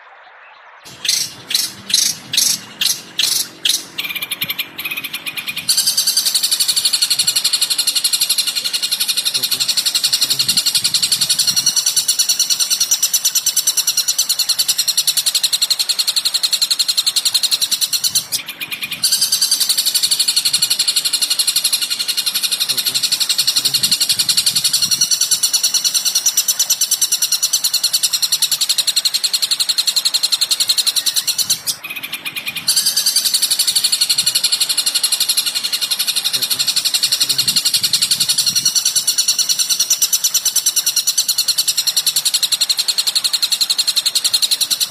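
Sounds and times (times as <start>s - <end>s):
songbird chirping chatter: 0.0s - 44.9s.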